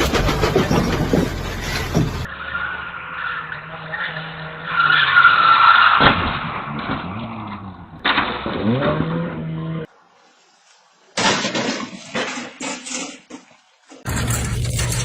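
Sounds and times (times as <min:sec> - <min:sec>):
road traffic noise: 0:00.0 - 0:12.6, 0:13.2 - 0:15.0.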